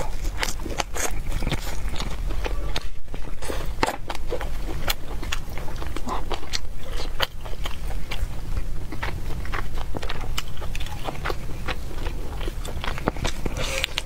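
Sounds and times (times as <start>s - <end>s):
wet crunchy chewing: 0.0s - 14.0s.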